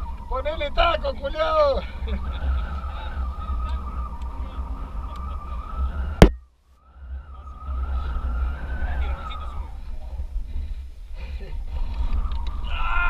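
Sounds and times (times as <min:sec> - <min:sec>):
vehicle whine: 0:00.0 - 0:13.0
wind rumble on microphone: 0:00.0 - 0:13.0.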